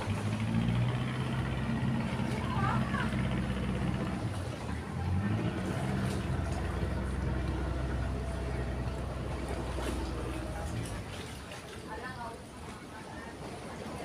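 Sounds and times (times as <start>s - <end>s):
motor engine humming: 0.0s - 11.3s.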